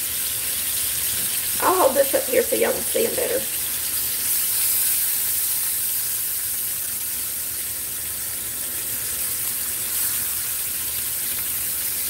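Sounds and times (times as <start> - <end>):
pork chops sizzling in hot oil: 0.0 - 12.0.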